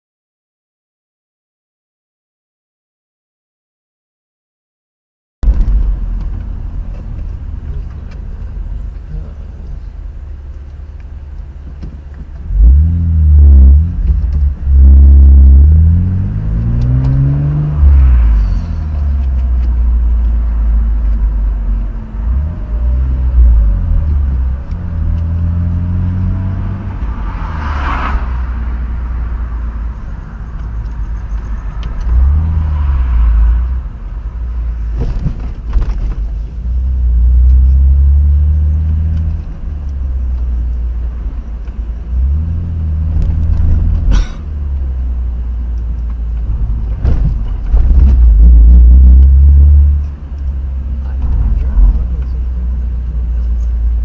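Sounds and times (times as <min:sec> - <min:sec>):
car engine and road rumble: 0:05.4 - 0:54.0.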